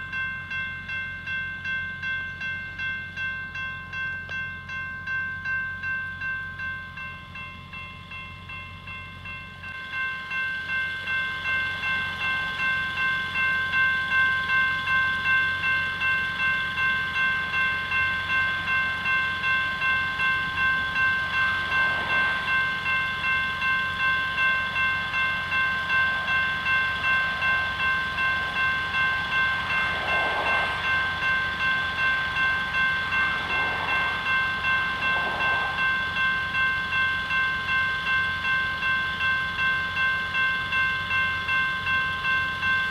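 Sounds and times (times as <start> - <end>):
crossing bell ringing: 0.0 - 42.9
freight train rumbling past: 0.0 - 42.9.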